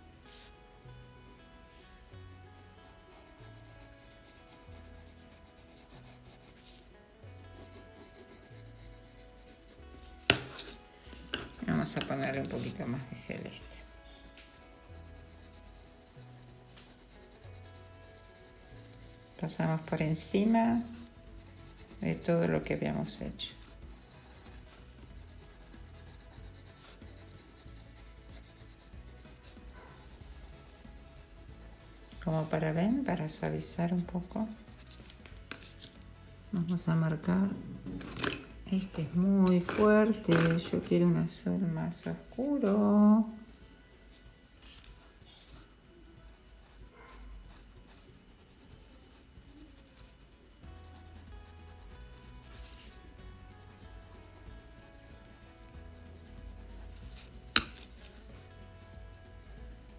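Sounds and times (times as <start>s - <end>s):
soft background music: 0.0s - 59.9s
pencil scratching on paper: 0.2s - 36.0s, 44.5s - 59.9s.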